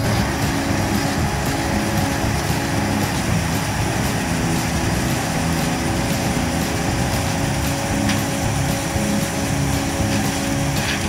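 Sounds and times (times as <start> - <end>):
combine harvester engine drone: 0.0 - 11.0
steady machinery whine: 0.0 - 11.0.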